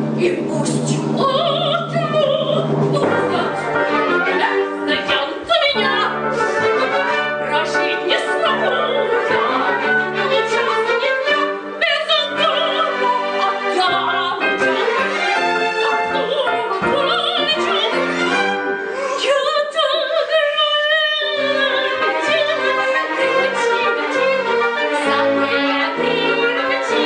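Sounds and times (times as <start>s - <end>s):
theatre orchestra with strings: 0.0s - 27.0s
person singing with vibrato: 0.2s - 27.0s.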